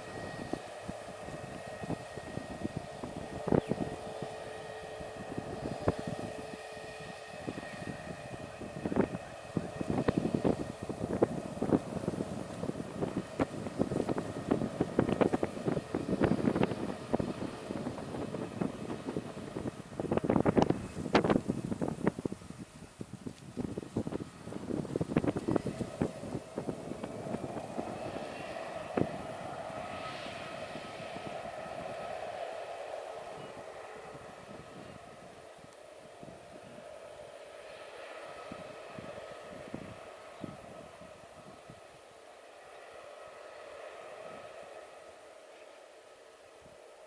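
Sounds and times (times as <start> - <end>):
wind buffeting microphone: 0.0 - 42.0
distant aircraft engines droning: 0.0 - 47.0.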